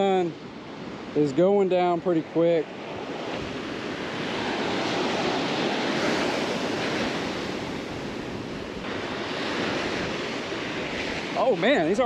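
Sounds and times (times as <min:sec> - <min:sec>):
surf breaking on beach: 0:00.0 - 0:12.0
wind on microphone: 0:00.0 - 0:12.0.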